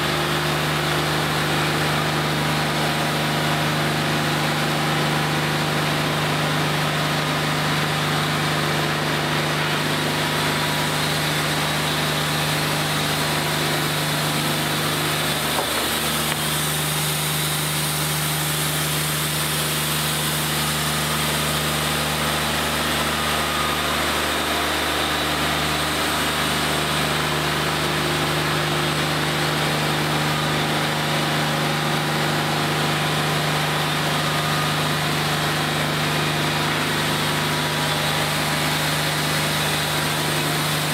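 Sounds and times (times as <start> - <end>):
bandsaw mill sawing wood: 0.0 - 40.9.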